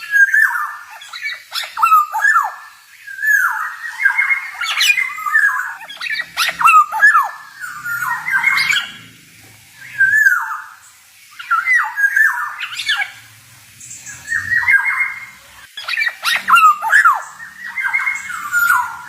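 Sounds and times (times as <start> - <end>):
oriole singing whistled notes: 0.0 - 9.1, 9.8 - 19.0.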